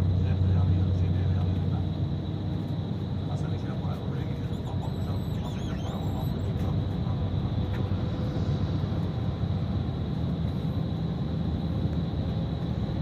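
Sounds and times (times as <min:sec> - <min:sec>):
bus engine and road rumble: 0:00.0 - 0:13.0
high steady whine: 0:00.0 - 0:13.0.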